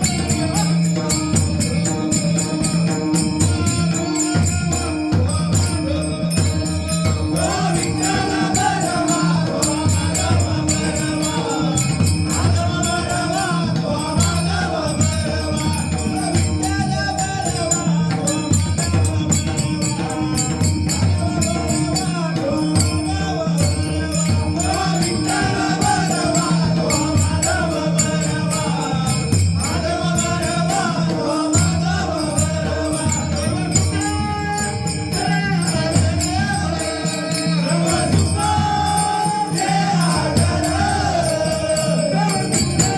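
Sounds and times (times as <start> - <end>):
jingling hand cymbals: 0.0 - 42.9.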